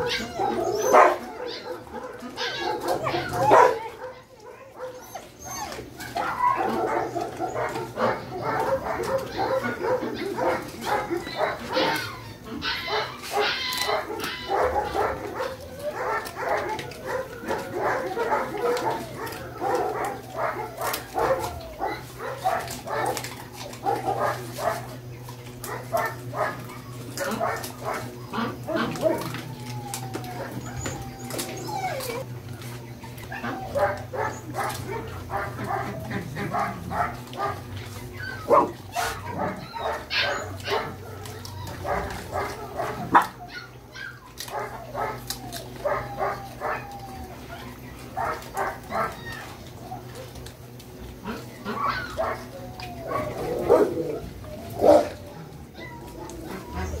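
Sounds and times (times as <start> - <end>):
dogs barking and yipping: 0.0 - 57.0
steady low hum: 0.0 - 57.0.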